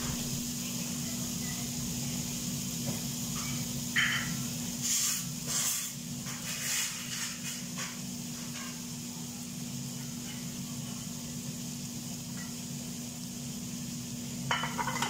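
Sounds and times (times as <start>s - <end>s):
chicken sizzling on a griddle: 0.0s - 15.0s.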